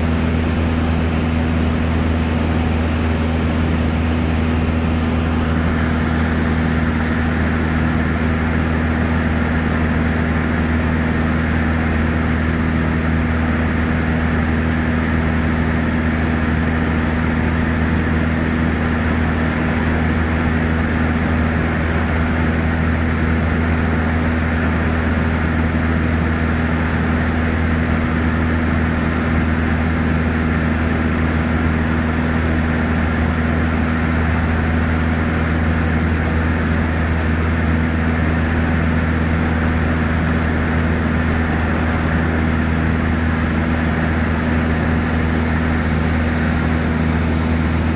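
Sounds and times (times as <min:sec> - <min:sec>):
small plane engine droning: 0:00.0 - 0:47.9.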